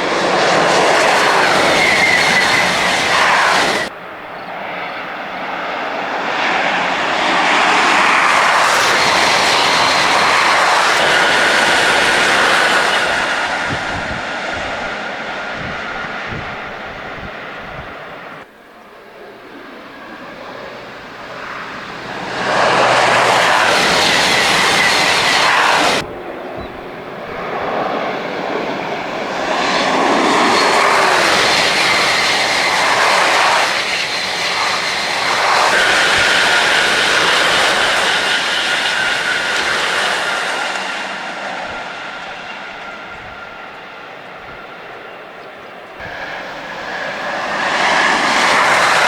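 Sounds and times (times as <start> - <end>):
high-speed trains passing: 0.0 - 49.0.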